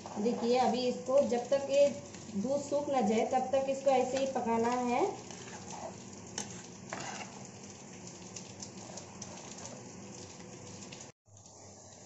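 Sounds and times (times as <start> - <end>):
milk boiling and bubbling: 0.0 - 12.0.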